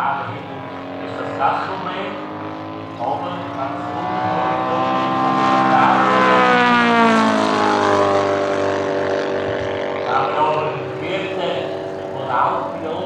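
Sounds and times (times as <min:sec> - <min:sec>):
model airplane engine drone: 0:00.0 - 0:13.0.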